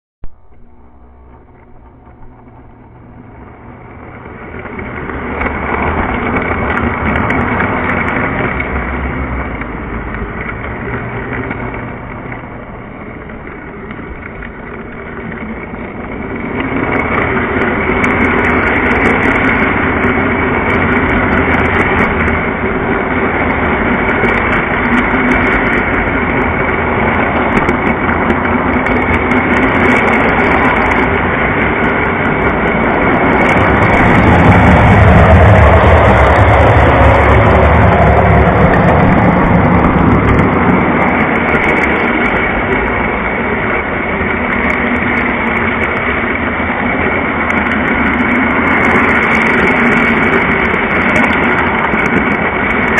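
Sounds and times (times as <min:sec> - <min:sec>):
model train rolling: 0:00.2 - 0:52.9.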